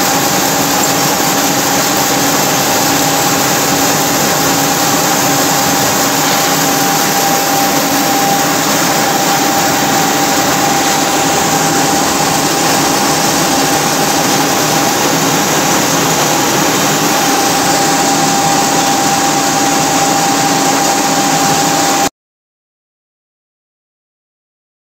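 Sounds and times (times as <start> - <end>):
constant machine whine: 0.0 - 22.1
lathe machine running: 0.0 - 22.1.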